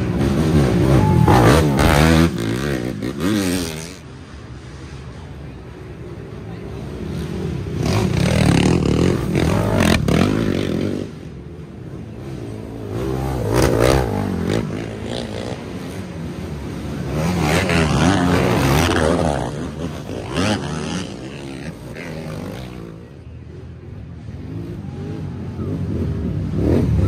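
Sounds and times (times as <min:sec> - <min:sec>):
atv engines revving: 0:00.0 - 0:27.0.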